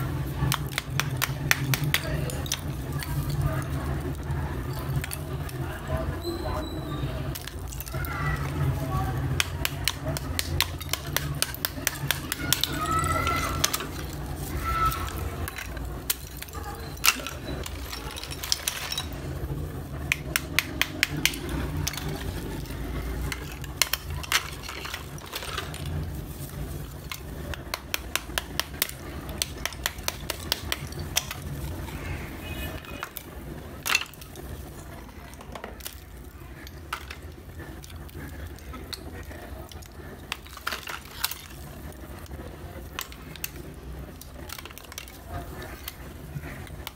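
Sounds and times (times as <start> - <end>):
clay layers cracking: 0.0 - 6.2, 6.9 - 46.9.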